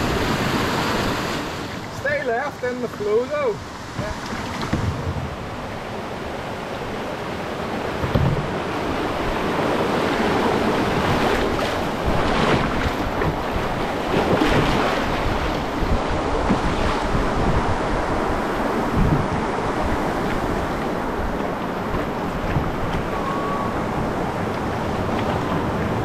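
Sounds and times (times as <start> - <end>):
white water rushing: 0.0 - 26.0.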